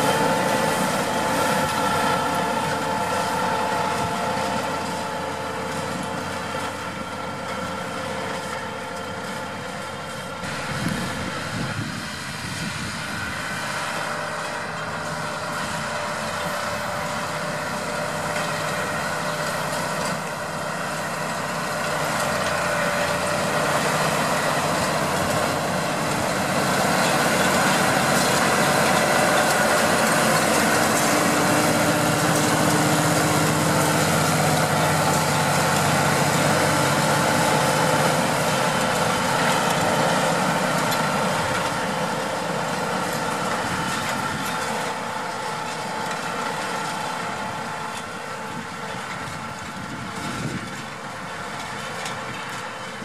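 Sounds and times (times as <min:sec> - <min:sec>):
tractor engine running under load: 0:00.0 - 0:53.0.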